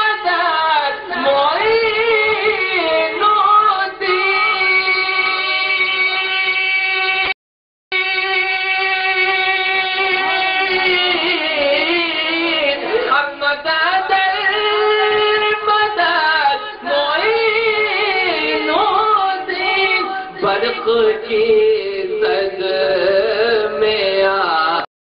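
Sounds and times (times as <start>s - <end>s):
person singing devotional song: 0.0s - 24.9s.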